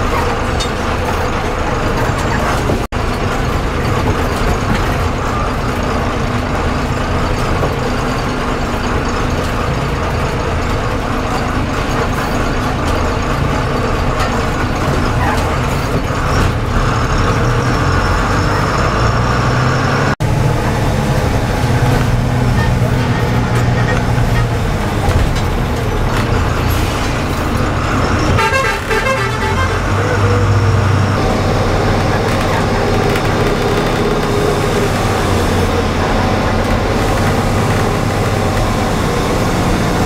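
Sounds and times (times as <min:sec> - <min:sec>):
bus engine running: 0:00.0 - 0:40.0
road and rattle noise: 0:00.0 - 0:40.0.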